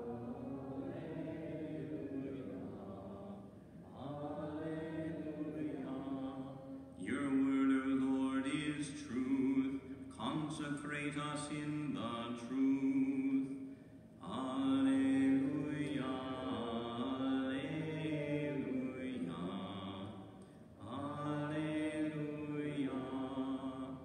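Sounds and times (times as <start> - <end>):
man singing liturgical chant: 0.0 - 24.0.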